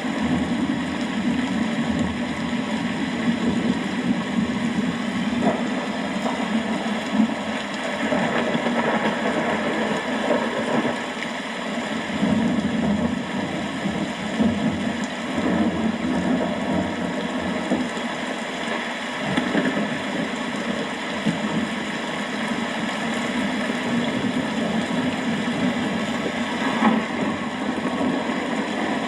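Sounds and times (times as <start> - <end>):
steady rain falling: 0.0 - 29.0
thunder rumbling: 0.1 - 11.1, 12.2 - 18.1, 21.2 - 29.0.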